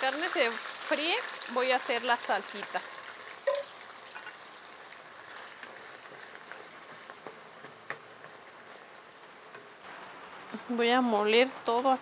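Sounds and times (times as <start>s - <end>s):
meat sizzling in hot oil: 0.0s - 11.5s
faint crackles: 0.0s - 11.8s.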